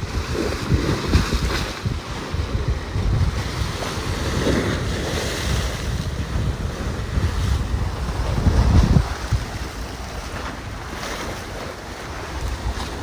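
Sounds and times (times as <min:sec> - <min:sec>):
sea waves breaking: 0:00.0 - 0:13.0
wind buffeting microphone: 0:00.0 - 0:13.0.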